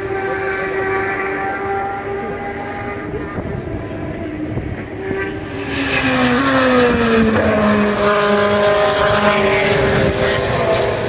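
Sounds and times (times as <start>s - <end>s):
race cars passing: 0.0s - 11.0s.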